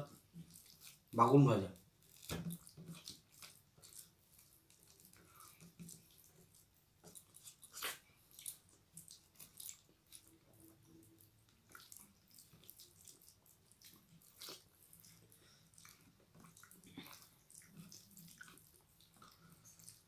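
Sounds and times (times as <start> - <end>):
fingers squelching wet rice: 0.0 - 20.0.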